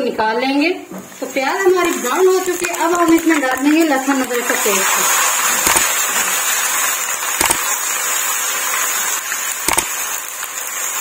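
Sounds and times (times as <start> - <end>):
food sizzling in hot oil: 1.0 - 11.0.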